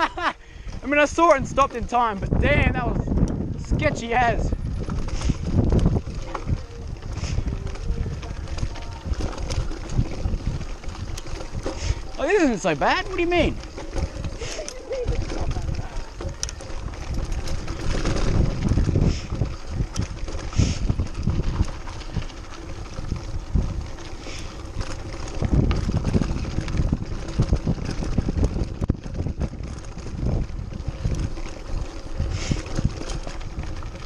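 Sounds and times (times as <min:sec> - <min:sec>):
bike knocks and rattles: 0:00.0 - 0:34.0
wind buffeting microphone: 0:00.0 - 0:34.0.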